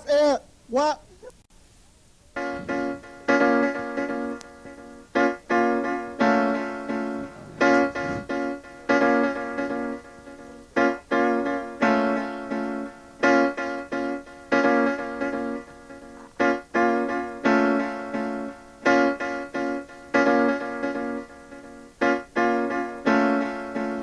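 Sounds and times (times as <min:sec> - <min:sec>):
piano chords: 0:02.4 - 0:24.0.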